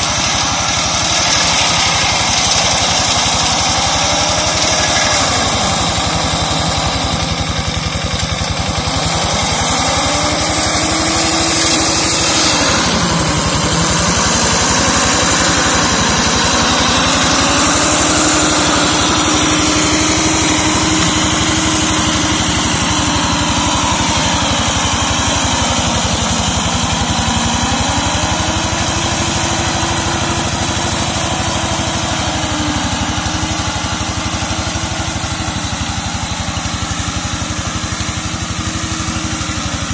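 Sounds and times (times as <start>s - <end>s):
diesel engine running hard: 0.0s - 39.9s.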